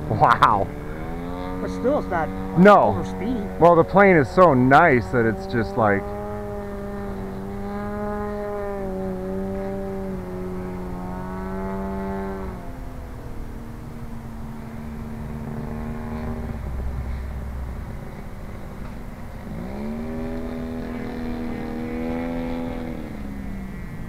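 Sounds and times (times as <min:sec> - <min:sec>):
model airplane engine droning: 0:00.0 - 0:24.0.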